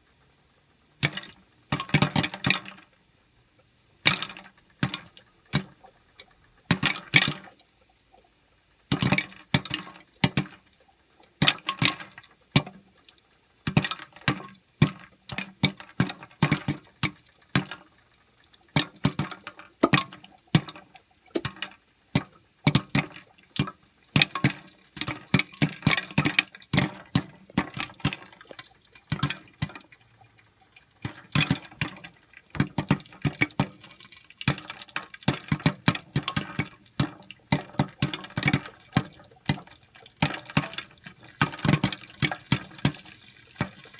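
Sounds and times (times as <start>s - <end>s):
popcorn popping: 1.0s - 2.9s, 4.0s - 8.2s, 8.8s - 43.9s.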